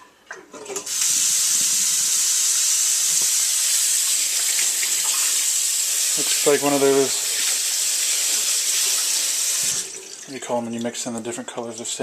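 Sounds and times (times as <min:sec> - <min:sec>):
tap water running: 0:00.3 - 0:10.9.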